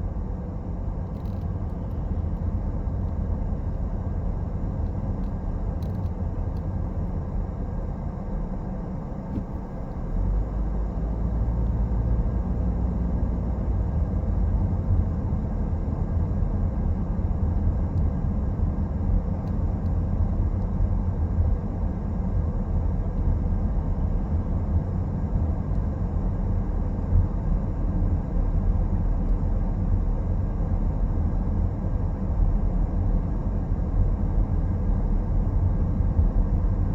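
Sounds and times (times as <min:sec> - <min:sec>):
car road and engine rumble: 0:00.0 - 0:36.9.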